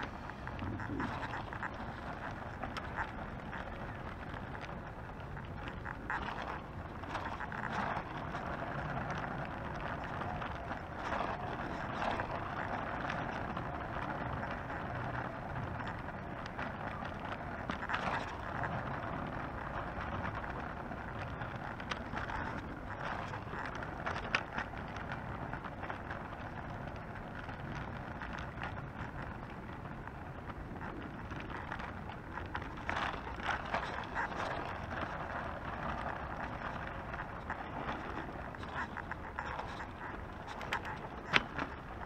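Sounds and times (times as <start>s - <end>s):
scooter wheels rolling on pavement: 0.0s - 42.0s.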